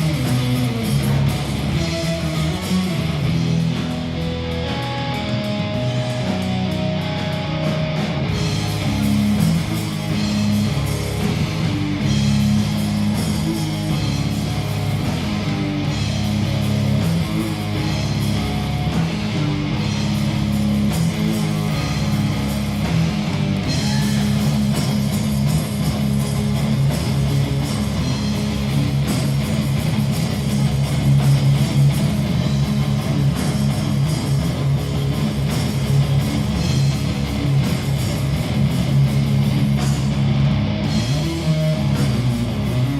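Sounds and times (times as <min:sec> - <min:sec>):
bass guitar: 0:00.0 - 0:42.9
electric guitar: 0:00.0 - 0:42.9.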